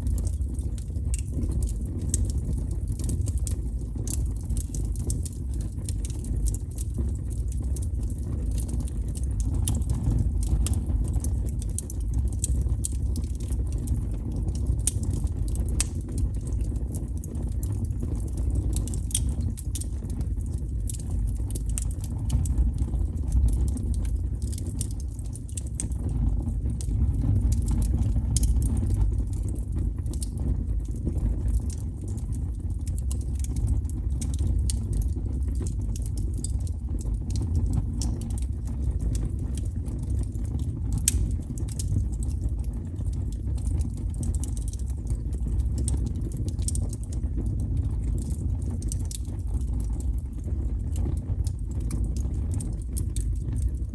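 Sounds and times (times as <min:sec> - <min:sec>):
fire popping and snapping: 0:00.0 - 0:53.9
wood fire crackling: 0:00.0 - 0:53.9.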